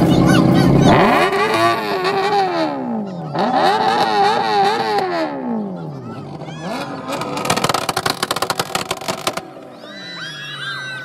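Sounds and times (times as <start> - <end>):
car engine revving on limiter: 0.0 - 9.4.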